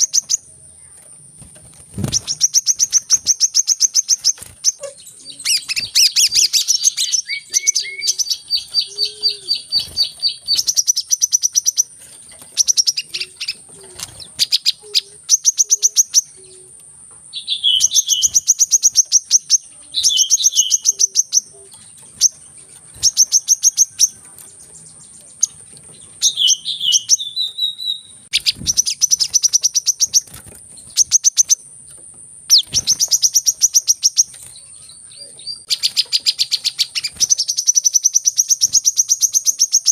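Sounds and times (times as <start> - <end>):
bird chattering trills: 0.0 - 0.6, 1.9 - 39.9.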